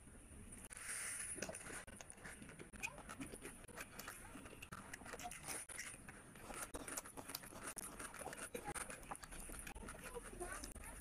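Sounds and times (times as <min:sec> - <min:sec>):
wet chewing and smacking: 0:01.4 - 0:11.0.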